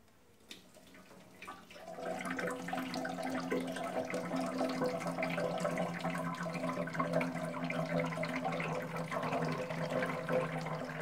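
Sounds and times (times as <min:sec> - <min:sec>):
water pouring into metal tank: 0:00.6 - 0:11.0.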